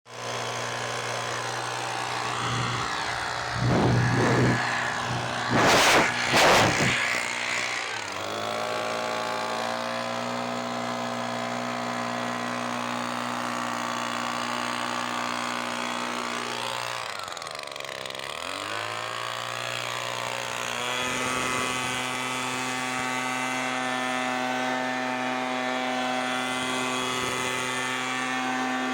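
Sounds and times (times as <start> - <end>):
leaf blower engine revving: 0.1 - 28.9.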